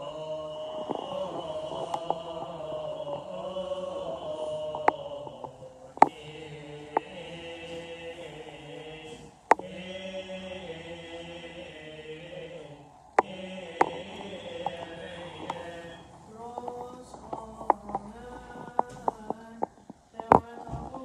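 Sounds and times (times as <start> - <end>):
men chanting a hymn in unison: 0.0 - 21.0.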